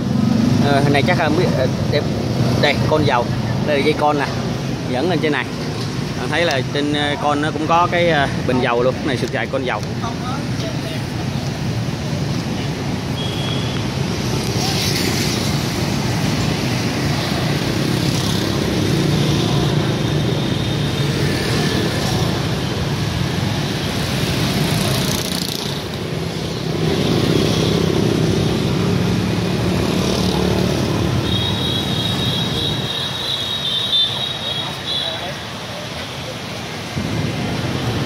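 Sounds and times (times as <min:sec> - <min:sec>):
motorcycle engines rumbling: 0:00.0 - 0:38.0
street traffic: 0:00.0 - 0:38.0.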